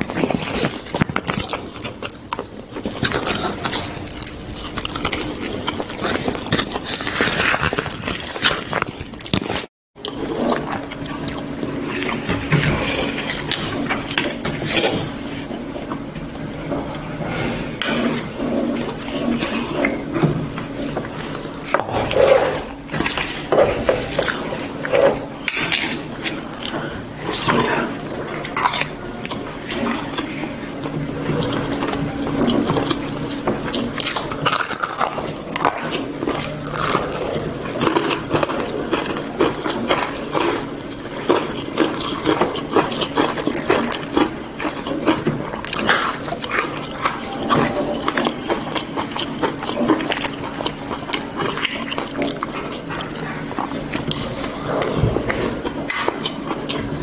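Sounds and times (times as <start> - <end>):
crunchy chewing and mouth smacking: 0.0 - 57.0.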